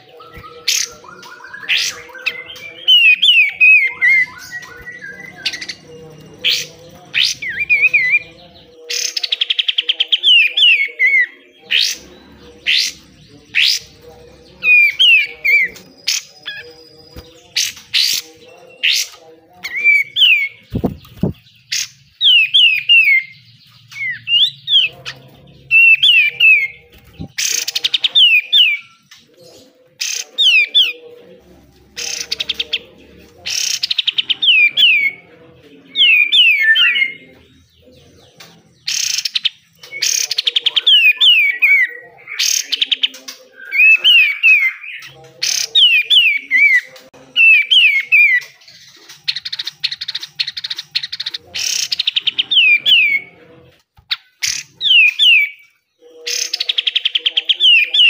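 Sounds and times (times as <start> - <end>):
harsh rasping bird calls: 0.0 - 58.0.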